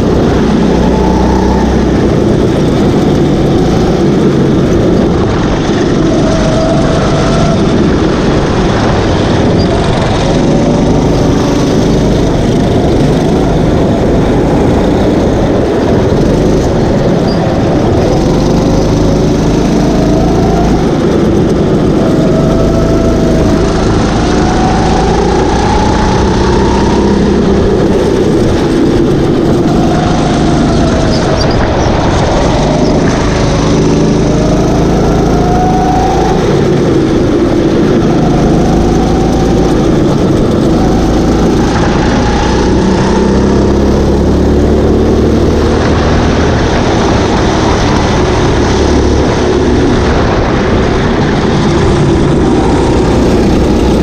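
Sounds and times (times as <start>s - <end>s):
kart engine revving: 0.0s - 54.0s
loud rushing noise: 0.0s - 54.0s.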